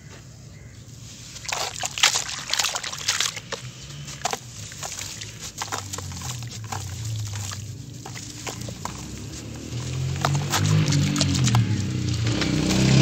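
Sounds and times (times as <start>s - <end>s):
water splashing and sloshing: 0.9s - 13.0s
gritty clumps dropping in water: 1.2s - 13.0s.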